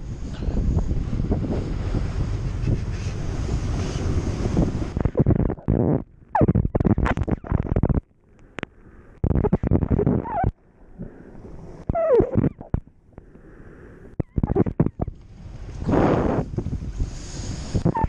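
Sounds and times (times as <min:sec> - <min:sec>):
heavy wind buffeting microphone: 0:00.0 - 0:08.0, 0:08.6 - 0:18.0.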